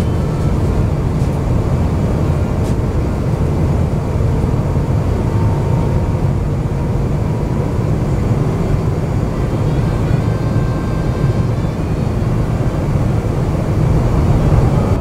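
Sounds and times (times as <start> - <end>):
faint steady hum: 0.0 - 15.0
low rumble of engines and airflow: 0.0 - 15.0.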